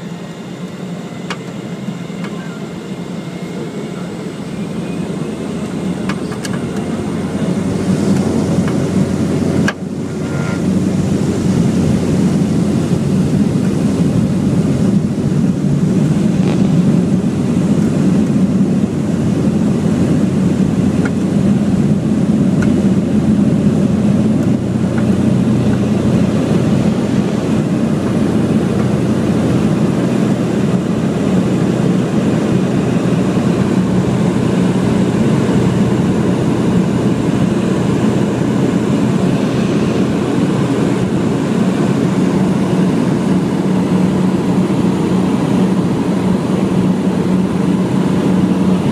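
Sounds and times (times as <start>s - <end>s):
propeller plane engine drone: 0.0s - 48.9s.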